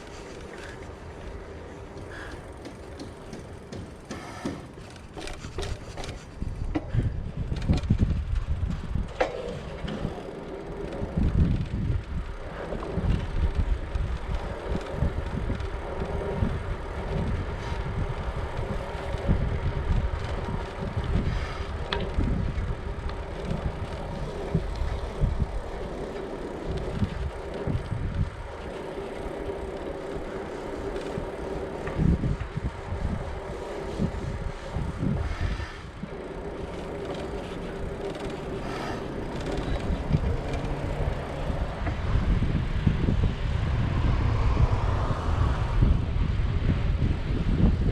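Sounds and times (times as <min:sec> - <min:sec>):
bicycle rolling noise: 0:00.0 - 0:47.9
wind buffeting microphone: 0:00.0 - 0:47.9.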